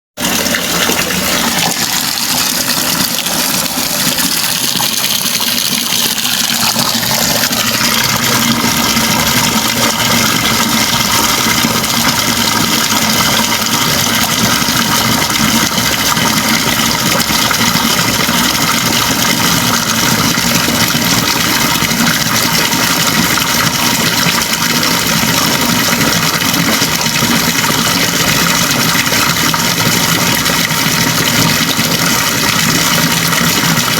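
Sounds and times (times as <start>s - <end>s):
water running from tap: 0.2s - 33.9s.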